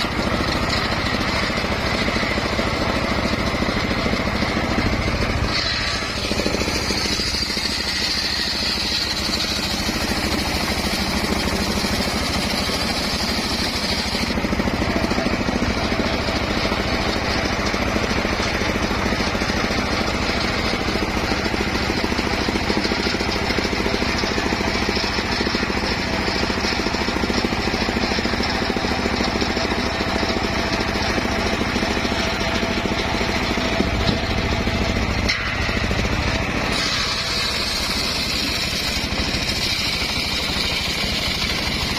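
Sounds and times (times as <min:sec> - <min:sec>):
circular sawmill drone: 0:00.0 - 0:41.9
high saw whine: 0:00.0 - 0:41.9.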